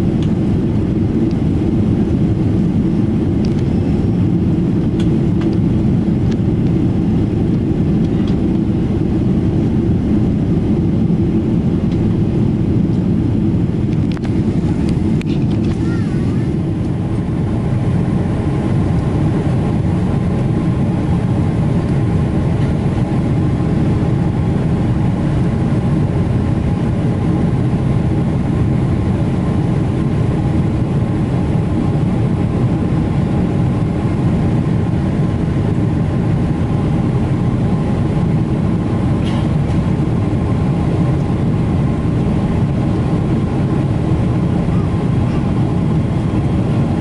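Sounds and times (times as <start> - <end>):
airplane cabin engine drone: 0.0 - 47.0.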